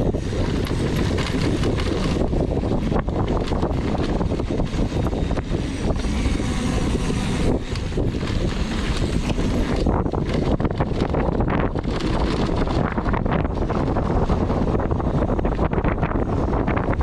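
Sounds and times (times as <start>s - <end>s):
mountain bike rumble and rattle: 0.0s - 17.0s
wind buffeting microphone: 0.0s - 17.0s.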